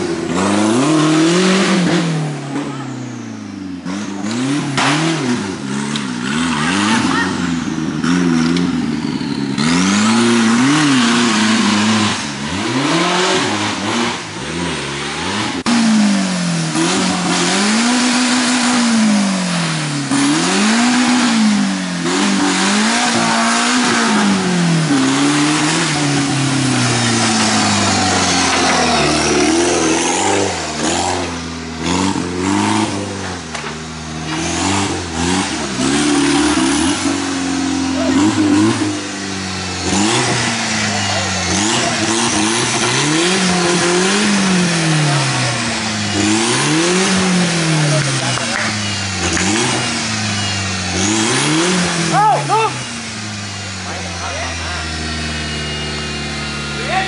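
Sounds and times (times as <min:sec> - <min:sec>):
engine revving hard: 0:00.0 - 0:57.0.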